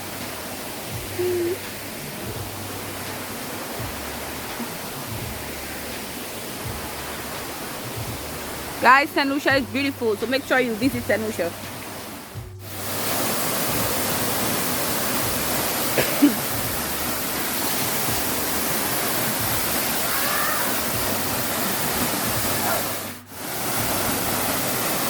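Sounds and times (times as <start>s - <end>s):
waterfall and river rushing: 0.0s - 25.0s.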